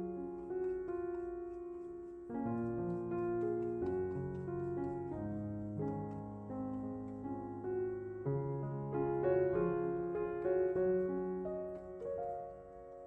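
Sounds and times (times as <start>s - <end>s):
gentle solo piano piece: 0.0s - 13.0s.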